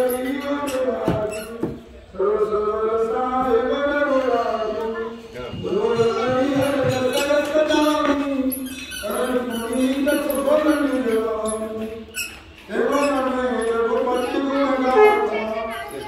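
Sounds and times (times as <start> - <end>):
person chanting devotional verses: 0.0 - 12.1, 12.7 - 16.0.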